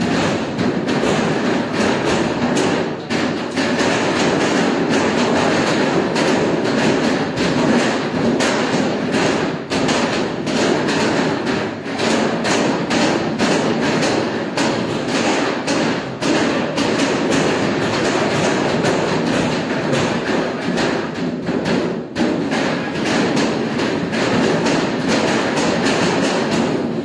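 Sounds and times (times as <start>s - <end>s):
dough slapping on steel table: 0.0s - 27.0s.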